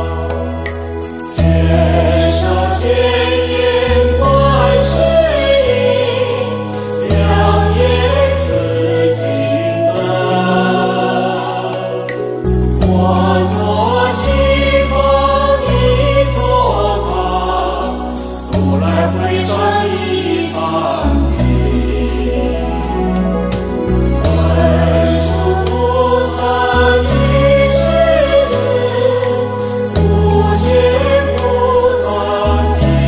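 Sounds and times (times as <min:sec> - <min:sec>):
choir-like backing: 0:00.0 - 0:33.0
sung devotional melody: 0:00.0 - 0:33.0
sustained bass chords: 0:00.0 - 0:33.0.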